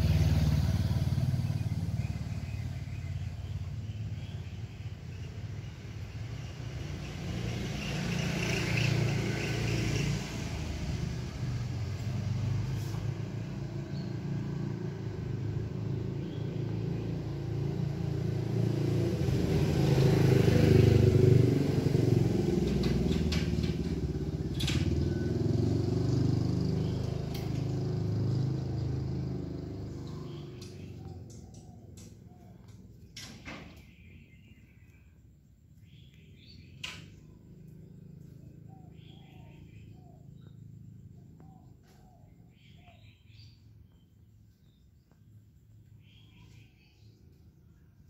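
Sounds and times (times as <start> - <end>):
passing traffic engine rumble: 0.0 - 44.4.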